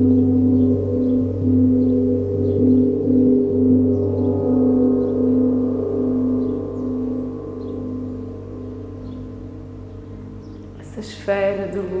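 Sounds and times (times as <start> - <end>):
meditation drone music: 0.0 - 12.0.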